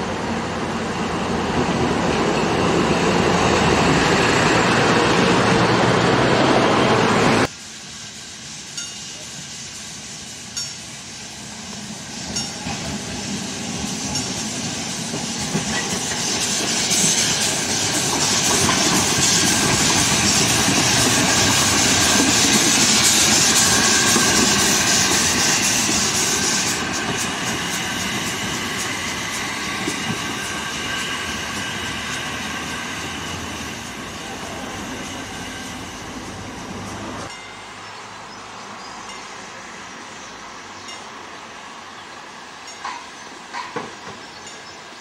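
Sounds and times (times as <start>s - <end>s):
loud hiss of steam: 0.0s - 45.0s
train wheels rumbling: 0.0s - 45.0s.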